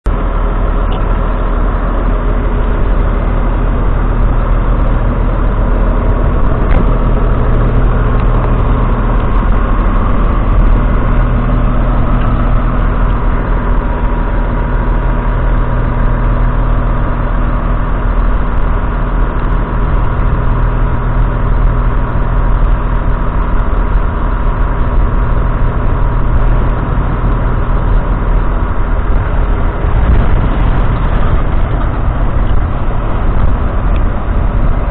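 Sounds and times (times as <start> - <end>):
tractor diesel engine idling: 0.0 - 34.9.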